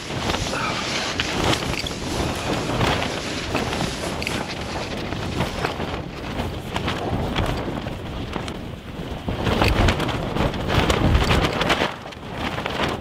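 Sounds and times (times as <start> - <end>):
gusting wind: 0.0 - 13.0
tent fabric flapping: 0.0 - 13.0
wind buffeting microphone: 0.0 - 13.0.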